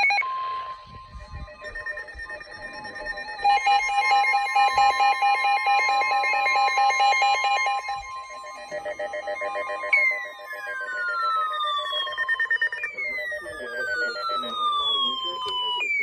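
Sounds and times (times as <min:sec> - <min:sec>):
rapidly pulsing tone: 0:00.0 - 0:16.0
steady high electronic tone: 0:00.0 - 0:16.0.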